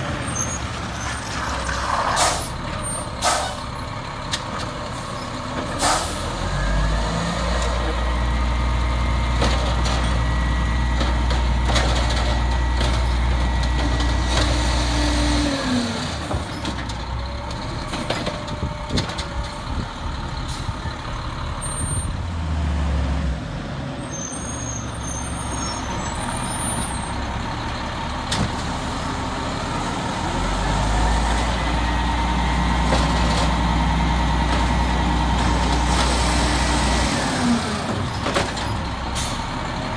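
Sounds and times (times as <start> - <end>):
garbage truck diesel engine revving: 0.0 - 24.0, 25.0 - 39.9.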